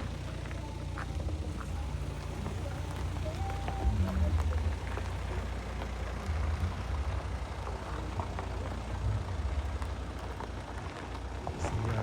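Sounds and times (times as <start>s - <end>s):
steps on stony path: 0.1s - 12.0s.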